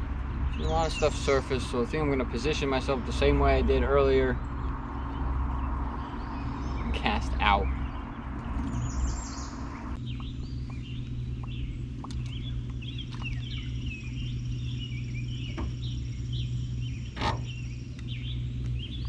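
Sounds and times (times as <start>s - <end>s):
songbirds chirping and singing: 0.0s - 19.0s
steady low hum: 0.0s - 19.0s.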